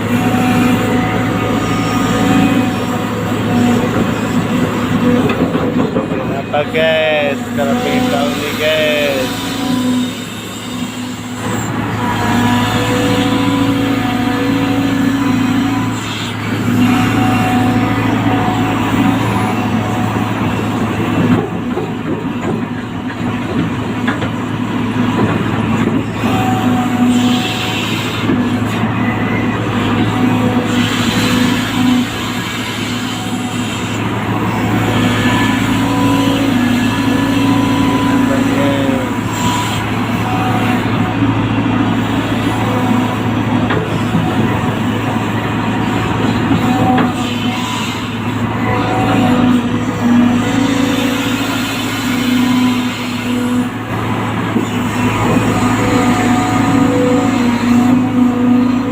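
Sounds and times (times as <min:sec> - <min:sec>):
engine running with rattle: 0:00.0 - 0:58.9.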